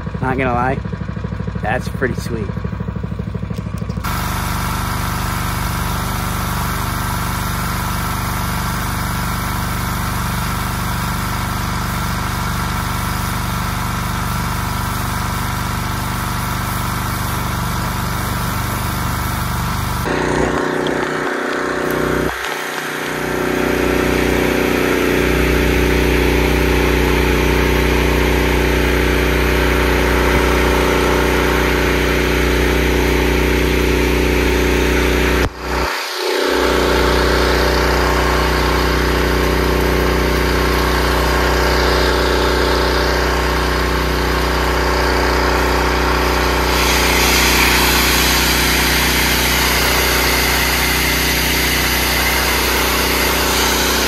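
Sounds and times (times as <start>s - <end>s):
engine running: 0.0s - 54.0s
louder deeper engine: 0.0s - 54.0s.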